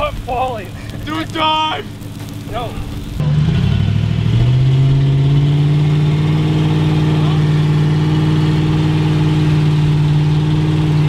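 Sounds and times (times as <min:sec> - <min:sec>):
truck engine straining at raised revs: 0:00.0 - 0:11.0.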